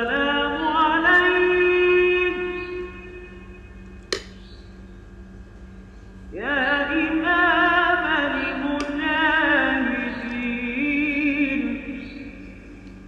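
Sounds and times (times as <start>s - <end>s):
person chanting devotional verse: 0.0s - 3.8s, 6.3s - 13.0s.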